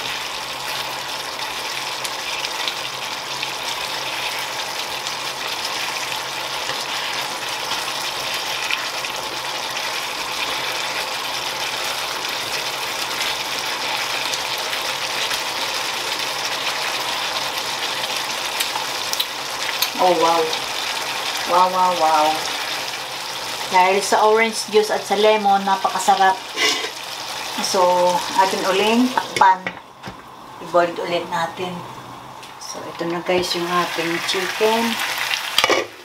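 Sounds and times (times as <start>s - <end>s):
sauce sizzling in a frying pan: 0.0s - 36.0s.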